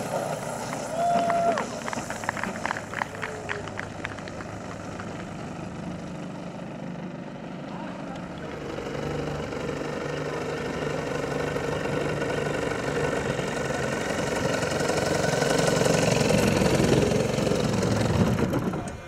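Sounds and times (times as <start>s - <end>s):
model plane engine idling: 0.0s - 19.0s.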